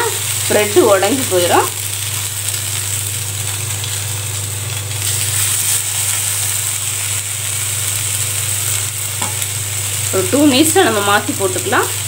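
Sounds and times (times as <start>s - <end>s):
bread sizzling in oil on a griddle: 0.0s - 12.0s.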